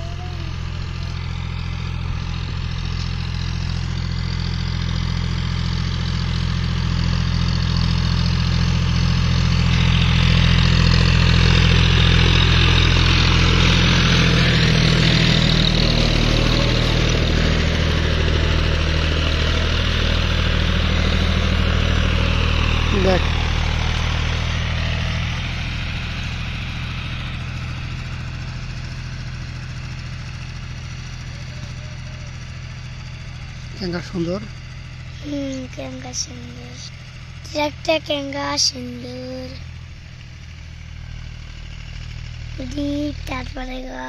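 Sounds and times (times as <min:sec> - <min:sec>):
tiller churning soil: 0:00.0 - 0:44.0
tractor diesel engine under load: 0:00.0 - 0:44.0.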